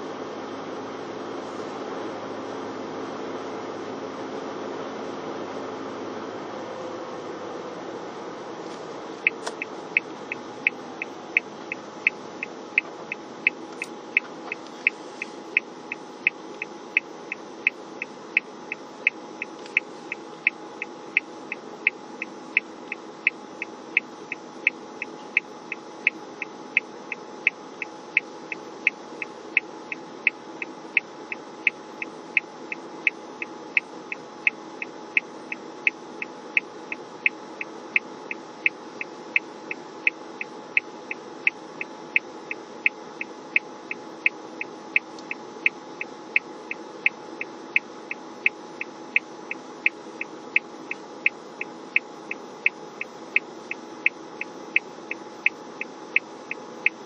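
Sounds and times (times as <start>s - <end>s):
car idling hum: 0.0s - 57.0s
turn signal ticking: 9.2s - 57.0s.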